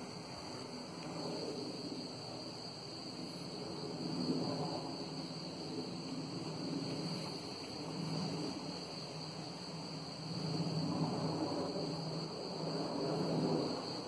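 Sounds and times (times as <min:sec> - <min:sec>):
high insect trill: 0:00.0 - 0:14.0.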